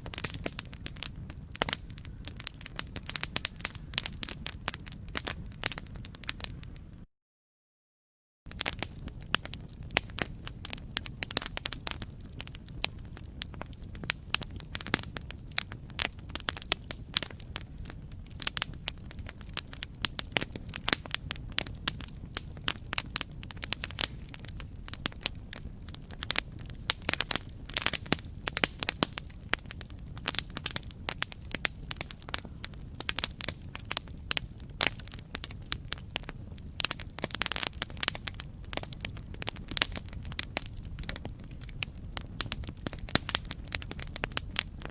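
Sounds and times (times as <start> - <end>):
burning wood popping and snapping: 0.0 - 6.7, 8.5 - 44.9
low rumble of flames: 0.0 - 7.0, 8.5 - 44.9.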